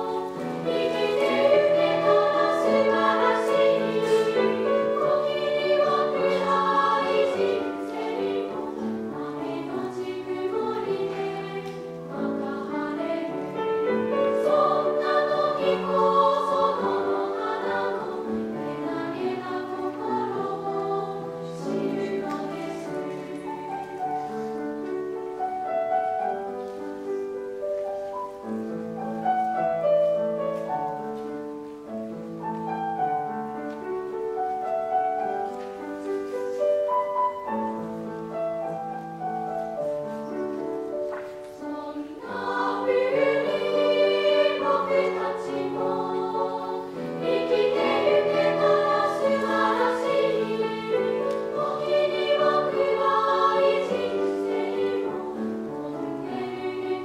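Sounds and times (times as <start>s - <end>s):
choir singing held notes: 0.0s - 27.1s, 34.2s - 57.0s.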